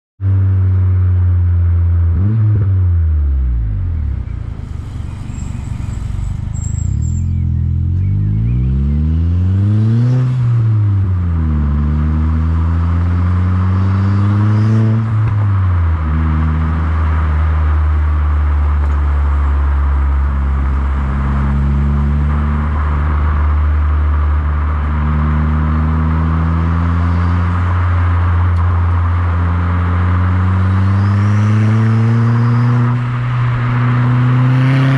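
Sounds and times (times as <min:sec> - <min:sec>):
car engine idling and revving: 0:00.2 - 0:34.9.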